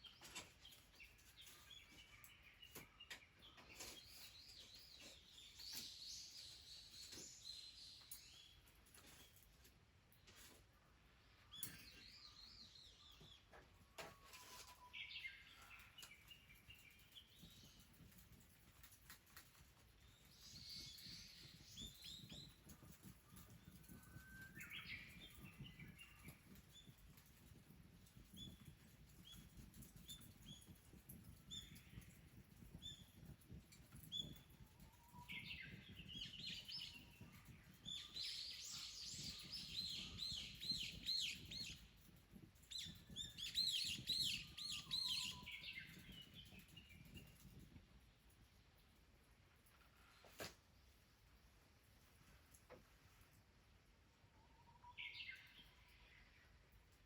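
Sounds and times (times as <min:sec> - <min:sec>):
songbirds chirping faintly: 0:00.0 - 0:57.0.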